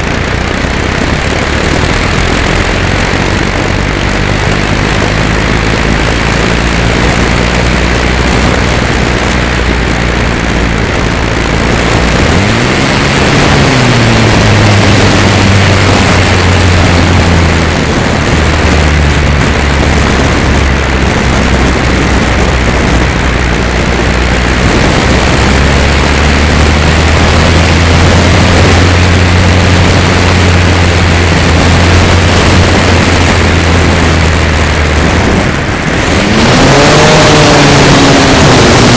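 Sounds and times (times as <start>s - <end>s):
electric motor and propeller: 0.0s - 38.9s
wind rush over microphone: 0.0s - 38.9s.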